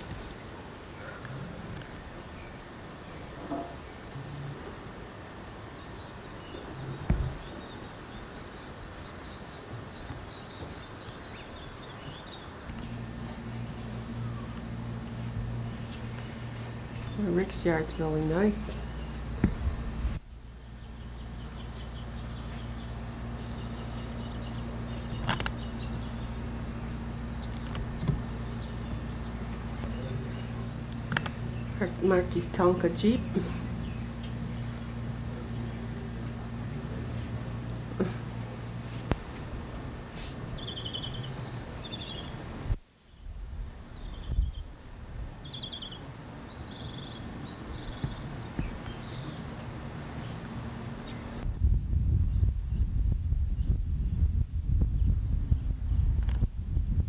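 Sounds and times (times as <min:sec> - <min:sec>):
low outdoor rumble: 0:00.0 - 0:57.0
steady low hum: 0:00.0 - 0:57.0
songbird chirping trills: 0:00.4 - 0:39.4, 0:40.5 - 0:42.4, 0:45.4 - 0:51.5.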